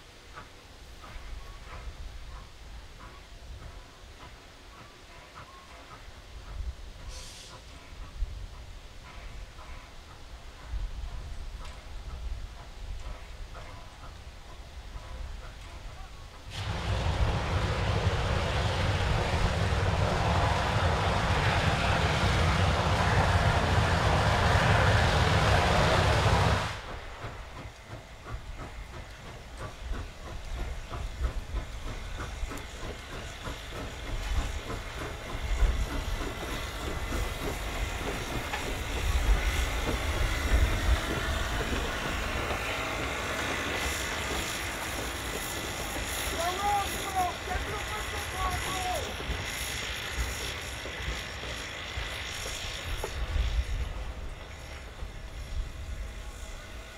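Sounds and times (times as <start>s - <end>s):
steam locomotive hissing: 0.0s - 56.9s
locomotive rumbling: 0.2s - 56.9s.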